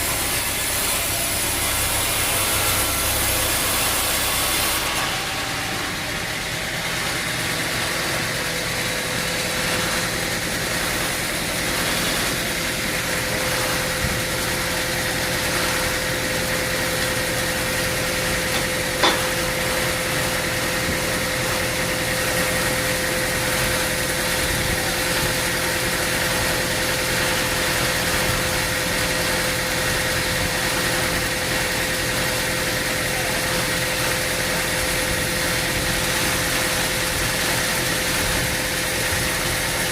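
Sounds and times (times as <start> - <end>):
engine idling with whine: 0.0 - 39.9.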